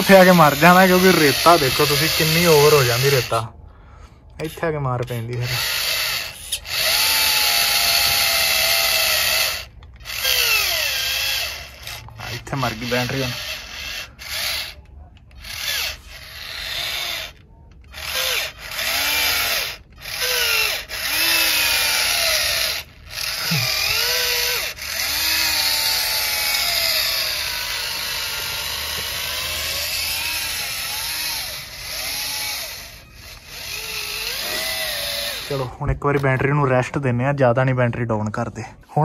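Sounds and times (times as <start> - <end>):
small electric motor whining: 0.0 - 3.5, 4.4 - 36.4.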